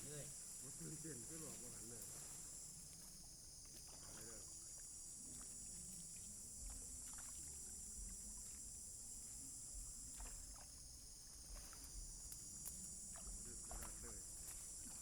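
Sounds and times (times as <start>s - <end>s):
insect chorus chirring: 0.0s - 15.0s.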